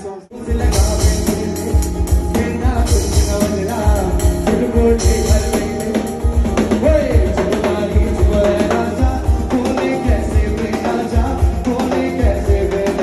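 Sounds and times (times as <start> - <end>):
male vocals: 0.0 - 13.0
drum beat: 0.5 - 13.0.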